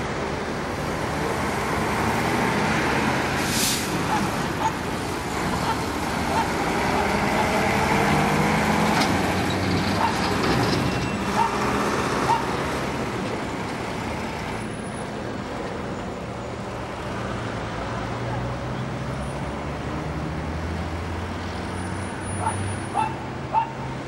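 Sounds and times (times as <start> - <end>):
diesel lorry passing: 0.0 - 24.0
light traffic noise: 0.0 - 24.0.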